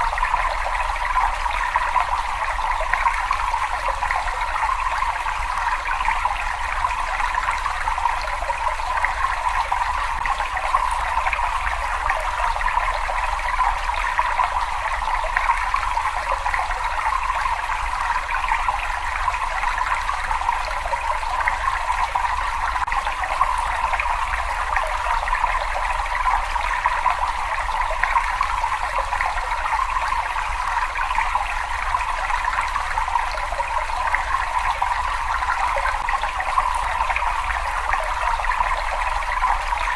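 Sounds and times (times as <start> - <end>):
water running in a cave: 0.0 - 39.9.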